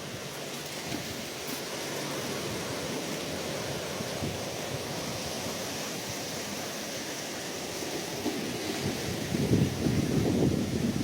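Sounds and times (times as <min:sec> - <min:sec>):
surf washing in: 0:00.0 - 0:11.0.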